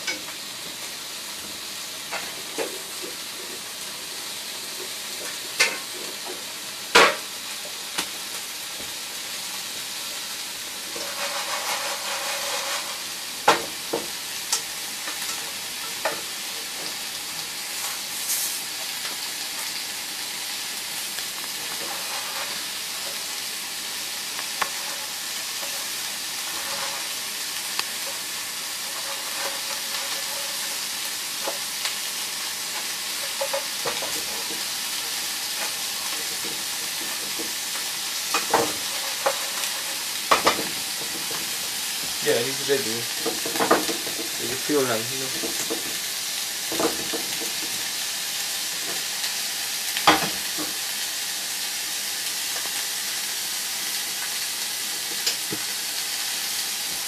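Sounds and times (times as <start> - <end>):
meat sizzling in oil: 0.0 - 57.0.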